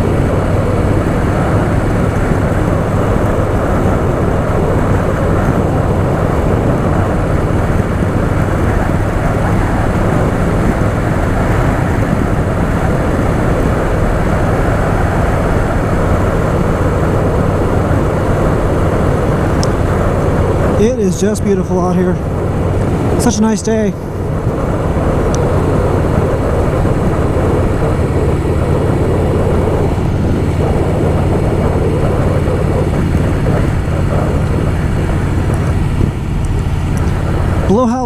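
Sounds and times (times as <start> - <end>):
motorcycle engine running: 0.0 - 38.0
wind noise on microphone: 0.0 - 38.0.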